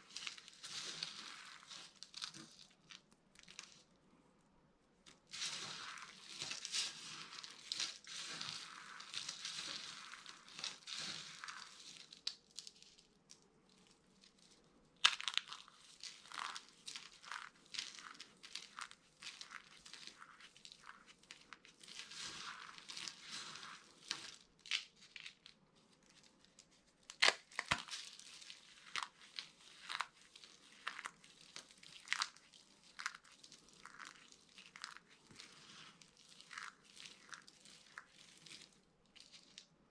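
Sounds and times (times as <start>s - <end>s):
dry soap crunching: 0.0s - 4.0s, 5.1s - 39.9s.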